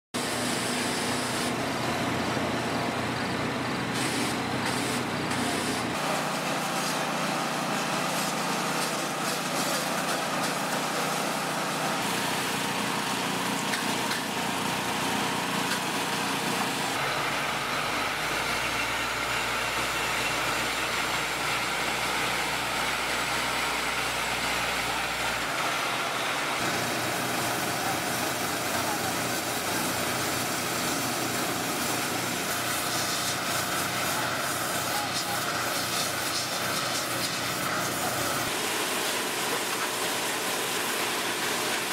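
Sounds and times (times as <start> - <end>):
pressure washer spraying water: 0.2 - 1.8, 3.8 - 17.2, 21.1 - 41.9.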